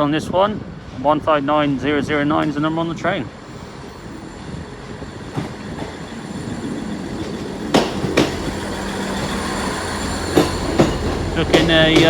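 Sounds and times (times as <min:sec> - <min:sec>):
diesel train engine: 0:00.0 - 0:12.0
wheels clacking over rail joints: 0:02.2 - 0:12.0.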